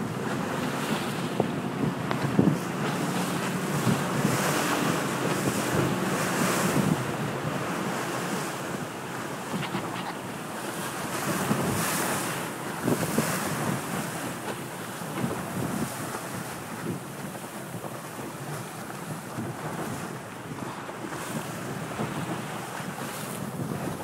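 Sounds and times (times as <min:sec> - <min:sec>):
water rushing along boat: 0:00.0 - 0:24.0
wind buffeting microphone: 0:00.0 - 0:24.0.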